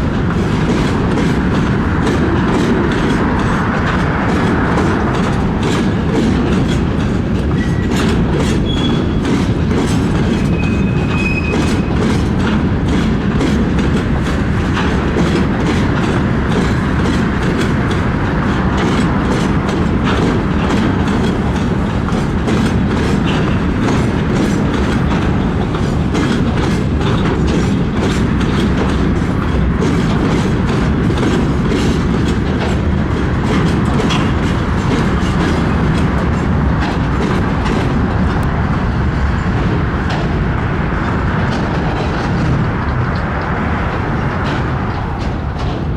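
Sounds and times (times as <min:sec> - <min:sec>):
train wheels clattering over rail joints: 0:00.0 - 0:45.9.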